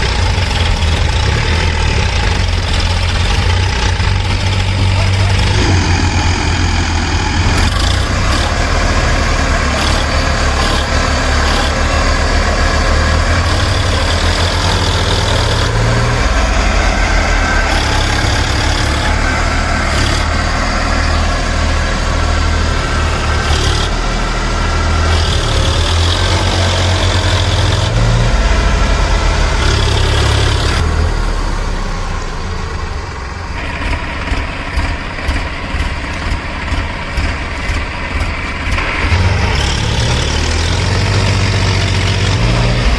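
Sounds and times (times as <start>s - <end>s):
vehicle engine low drone: 0.0s - 42.9s.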